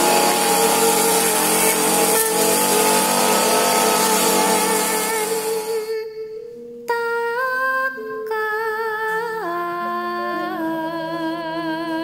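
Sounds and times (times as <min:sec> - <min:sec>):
slow hummed melody: 0:00.0 - 0:12.0.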